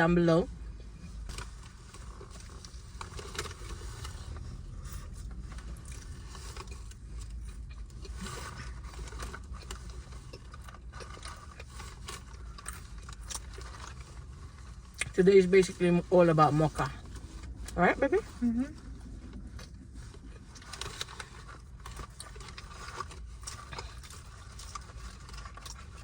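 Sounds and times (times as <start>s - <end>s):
steady low rumble: 0.0s - 26.0s
food packaging rustling: 1.3s - 15.6s, 16.3s - 26.0s.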